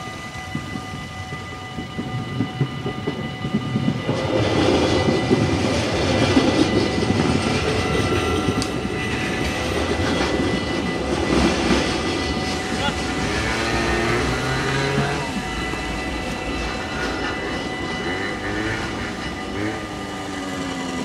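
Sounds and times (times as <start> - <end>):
level-crossing bells ringing: 0.0 - 21.0
train wheels rumbling on rails: 0.0 - 21.0.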